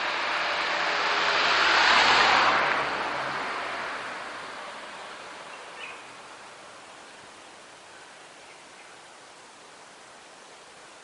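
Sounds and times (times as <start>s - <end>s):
car tyres hissing on wet road: 0.0s - 11.0s.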